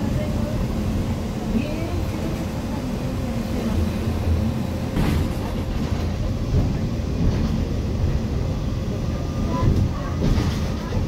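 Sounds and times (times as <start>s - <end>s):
bus diesel engine rumble: 0.0s - 11.0s
road and tyre noise: 0.0s - 11.0s.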